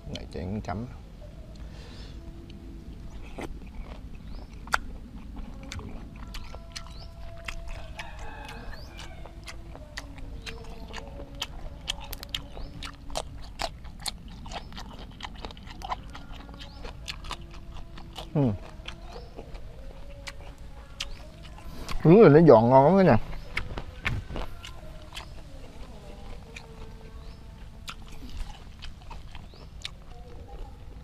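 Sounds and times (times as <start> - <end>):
crisp crunchy chewing: 1.6 - 31.0.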